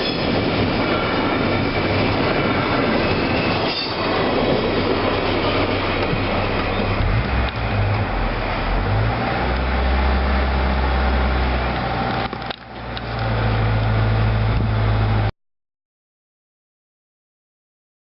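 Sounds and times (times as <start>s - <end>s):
freight train rolling past: 0.0s - 15.3s.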